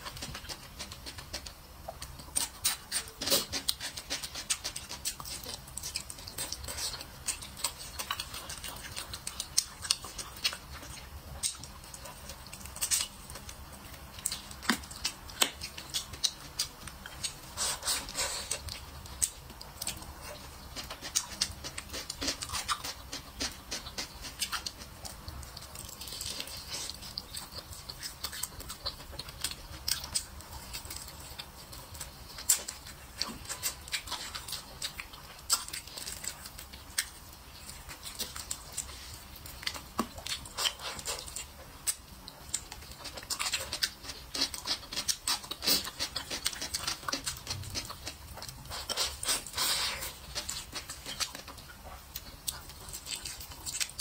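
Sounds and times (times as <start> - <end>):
person chewing wet mouth smacks: 0.0 - 54.0.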